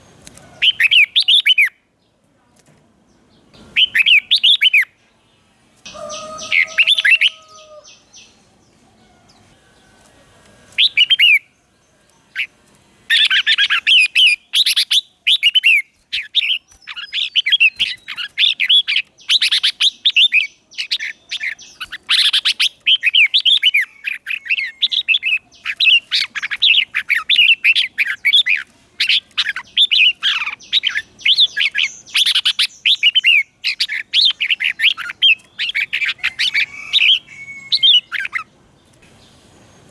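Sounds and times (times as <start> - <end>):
bird singing warbled phrases: 0.0 - 2.2, 3.0 - 39.9.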